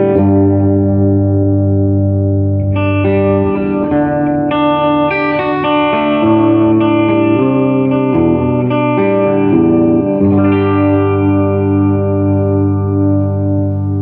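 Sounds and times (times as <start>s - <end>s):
electric guitar notes and chords: 0.0s - 14.0s.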